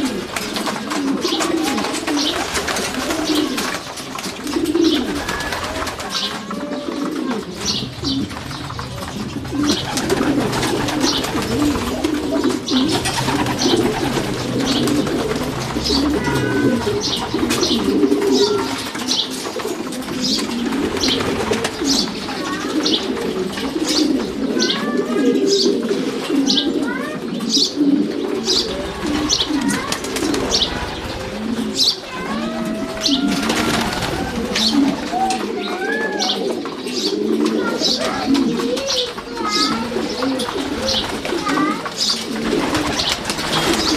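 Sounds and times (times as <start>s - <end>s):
pigeons cooing: 0.0s - 43.9s.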